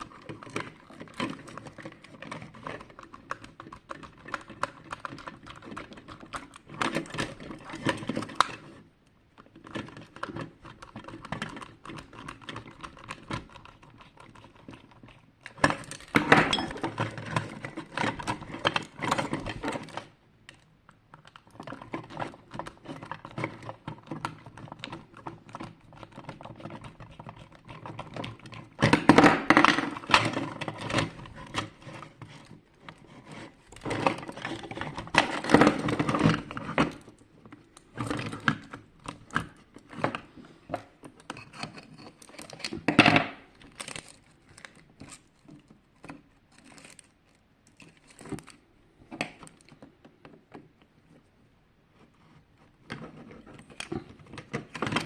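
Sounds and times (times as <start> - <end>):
plastic parts clicking and rattling: 0.0 - 51.3, 52.0 - 55.0.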